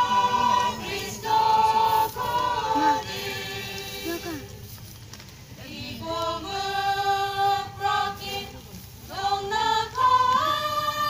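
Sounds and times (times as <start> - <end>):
choir singing long notes: 0.0 - 4.5, 5.6 - 11.0.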